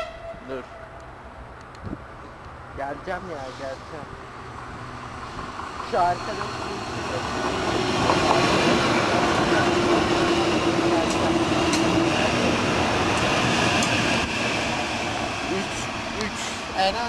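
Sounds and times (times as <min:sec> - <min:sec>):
electric train hum: 0:00.0 - 0:17.0
train wheels rumbling on rails: 0:02.8 - 0:17.0.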